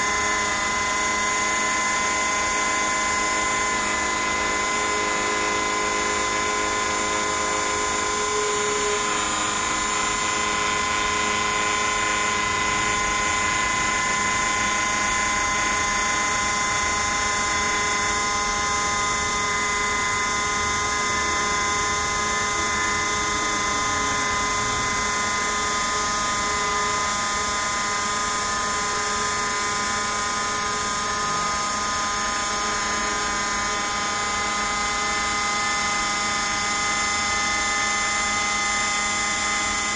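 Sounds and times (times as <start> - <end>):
router spindle motor whine: 0.0 - 39.9.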